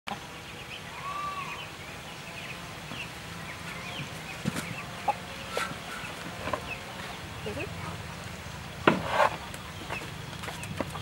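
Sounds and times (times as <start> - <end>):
small birds chirping: 0.1 - 11.0
steady background hiss: 0.1 - 11.0.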